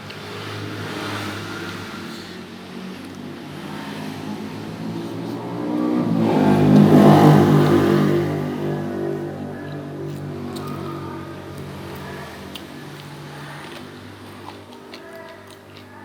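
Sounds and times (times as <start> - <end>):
vehicle engine running: 0.0 - 14.3.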